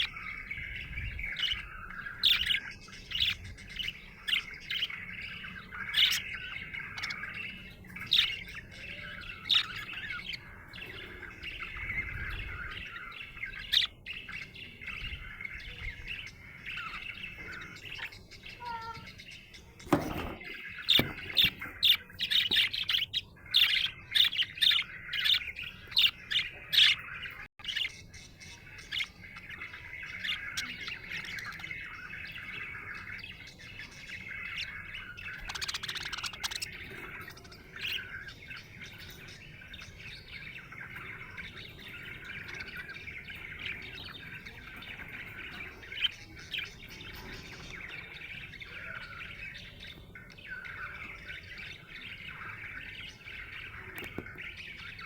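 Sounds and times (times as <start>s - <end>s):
budgerigar warbling and chattering: 0.0s - 55.0s.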